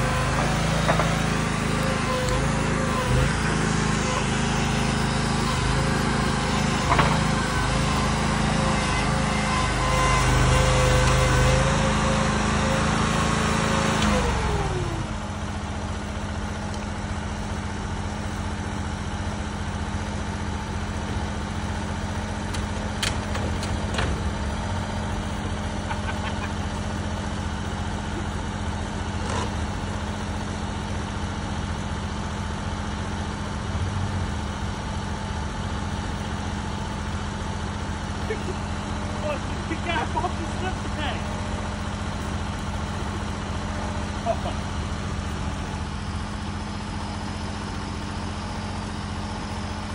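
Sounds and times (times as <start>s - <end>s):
small engine running: 0.0s - 49.9s.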